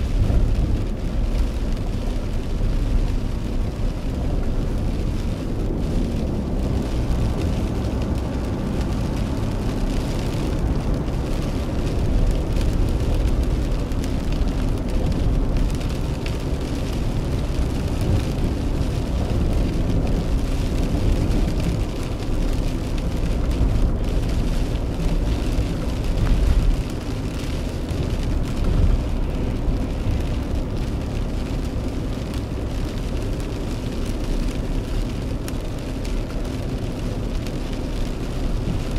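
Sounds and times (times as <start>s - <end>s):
engine and tyres rumbling: 0.0s - 38.9s
rain and spray hissing: 0.0s - 38.9s.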